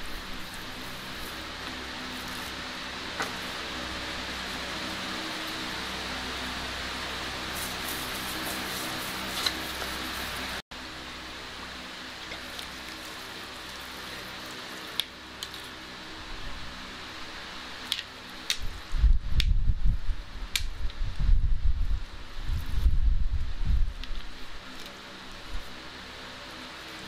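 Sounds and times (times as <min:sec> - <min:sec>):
room hum: 0:00.0 - 0:27.0.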